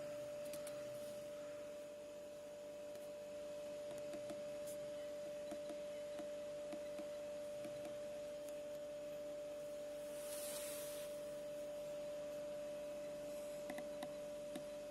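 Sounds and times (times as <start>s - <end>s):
steady hum: 0.0s - 14.9s.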